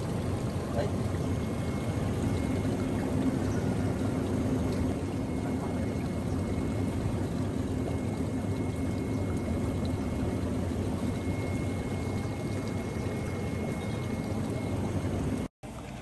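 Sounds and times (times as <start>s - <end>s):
steady low hum: 0.0s - 16.0s
water pouring in a tank: 0.0s - 16.0s.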